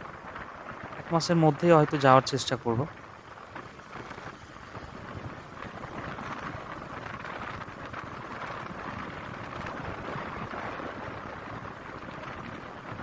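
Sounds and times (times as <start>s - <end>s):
road noise: 0.0s - 13.0s
wind rushing over microphone: 0.0s - 13.0s.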